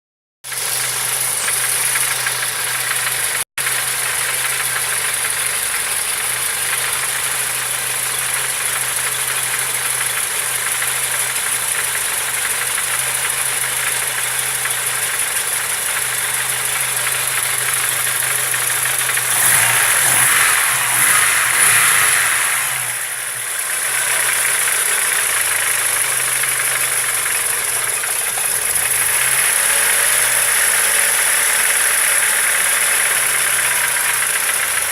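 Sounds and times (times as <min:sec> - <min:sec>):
car engine idling with knock: 0:00.4 - 0:34.9.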